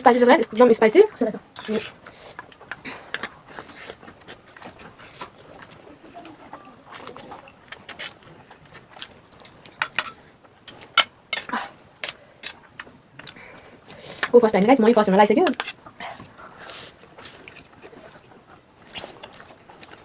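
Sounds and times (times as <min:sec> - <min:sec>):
chewing and slurping noodles: 0:01.5 - 0:14.3, 0:15.6 - 0:20.0.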